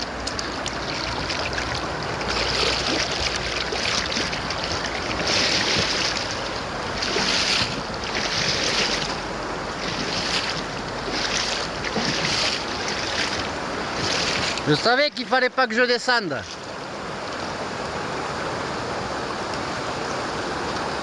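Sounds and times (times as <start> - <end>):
river water rushing and splashing: 0.0 - 21.0.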